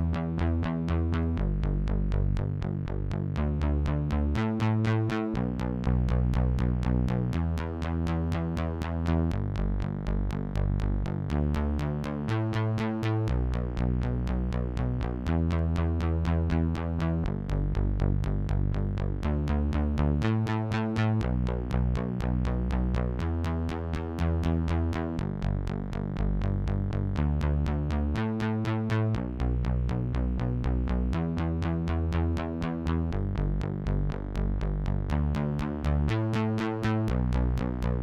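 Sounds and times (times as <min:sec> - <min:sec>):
pulsing synth bass notes: 0:00.0 - 0:38.0.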